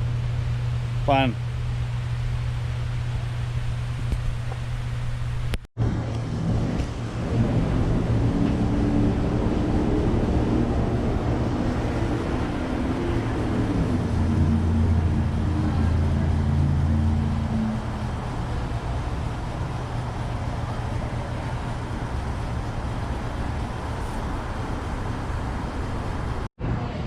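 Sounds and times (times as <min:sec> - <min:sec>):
engine running low hum: 0:00.0 - 0:27.0.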